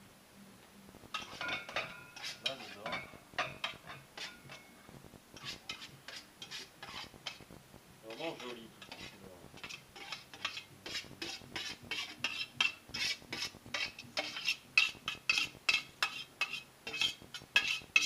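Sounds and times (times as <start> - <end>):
metal utensil scraping cookware: 1.1 - 4.7, 5.4 - 7.4, 8.1 - 18.0.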